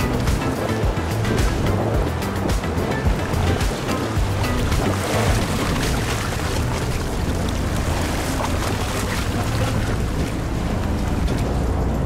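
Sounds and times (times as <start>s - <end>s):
boat engine humming: 0.0s - 12.0s
water washing against hull: 0.0s - 12.0s
wind on microphone: 0.0s - 12.0s.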